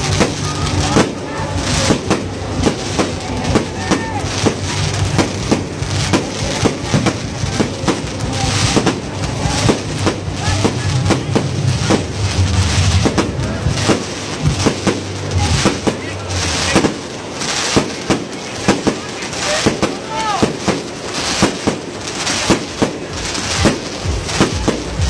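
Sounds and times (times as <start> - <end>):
fireworks bangs: 0.0 - 25.0
hiss and rumble: 0.0 - 25.0.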